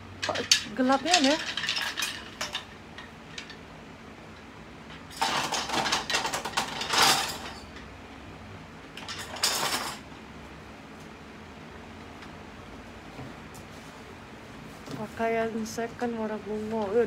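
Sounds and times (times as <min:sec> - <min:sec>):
clattering and rustling handling noise: 0:00.0 - 0:08.0, 0:08.9 - 0:10.3, 0:12.0 - 0:17.0.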